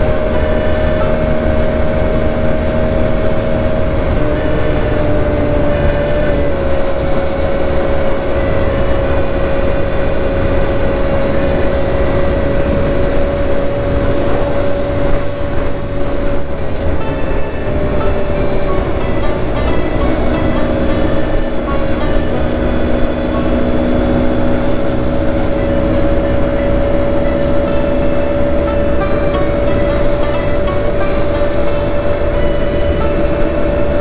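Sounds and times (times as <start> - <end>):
moped engine whine: 0.0 - 34.0.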